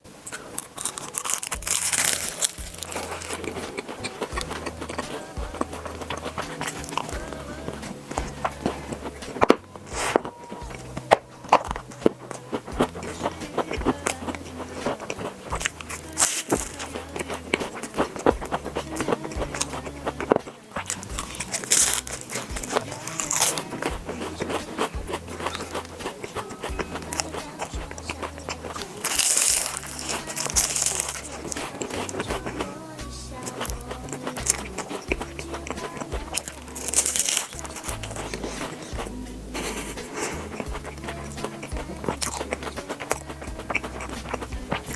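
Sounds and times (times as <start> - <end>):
crunchy biting and chewing: 0.0 - 44.9
background music with bass: 0.8 - 44.9.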